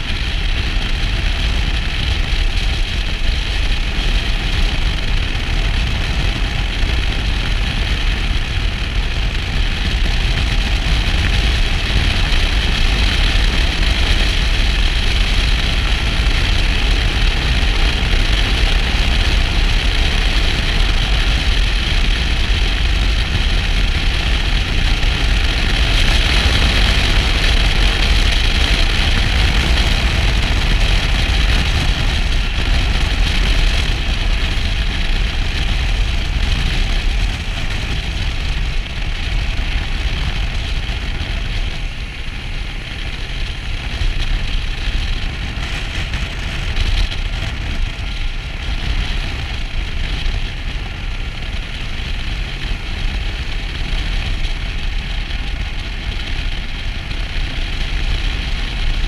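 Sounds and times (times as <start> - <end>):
motorcycle engine and tyre noise: 0.0 - 59.0
wind rushing on microphone: 0.0 - 59.0.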